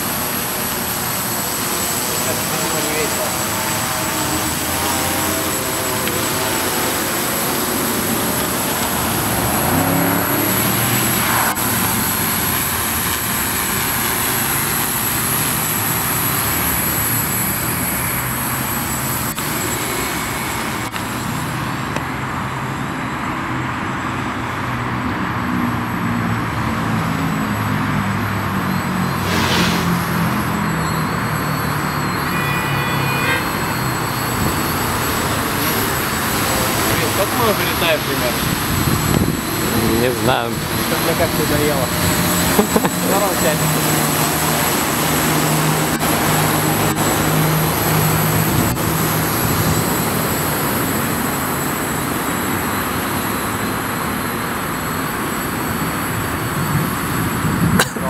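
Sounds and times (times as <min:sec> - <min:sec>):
steady rush of noise: 0:00.0 - 0:32.7, 0:33.3 - 0:58.0
drone propellers buzzing: 0:00.0 - 0:58.0.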